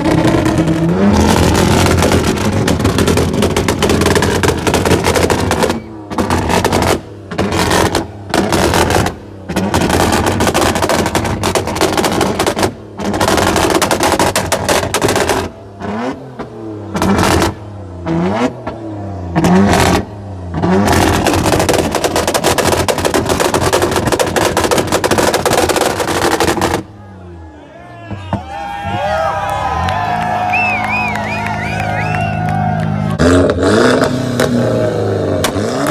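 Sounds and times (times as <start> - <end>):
car engine revving and crackling: 0.0 - 27.1, 28.8 - 35.9.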